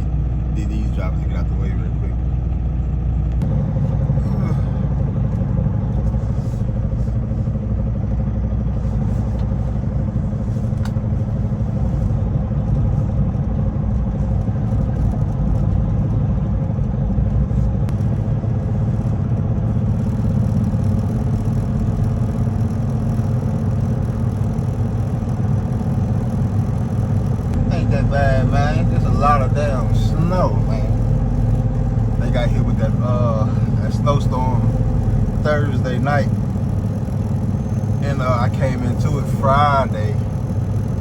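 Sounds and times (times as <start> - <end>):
diesel truck engine rumbling: 0.0 - 41.0.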